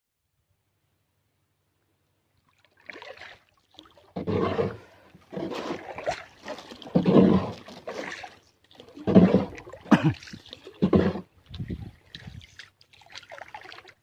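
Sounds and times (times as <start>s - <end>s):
water splashing and sloshing: 2.3s - 14.0s.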